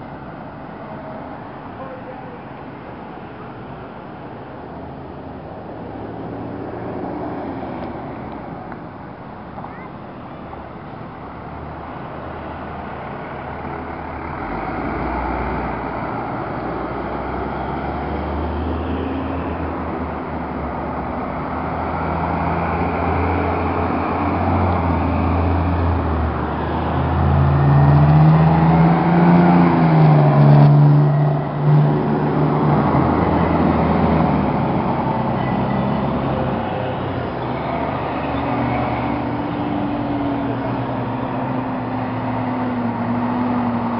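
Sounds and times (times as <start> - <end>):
fire truck diesel engines passing: 0.0 - 43.9.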